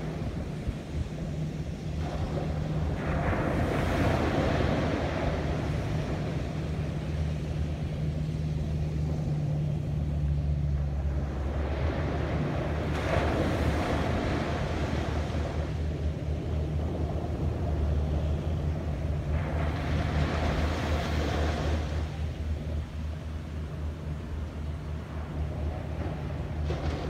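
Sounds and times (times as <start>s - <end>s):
ocean surf breaking: 0.0s - 27.0s
steady low hum: 0.0s - 27.0s.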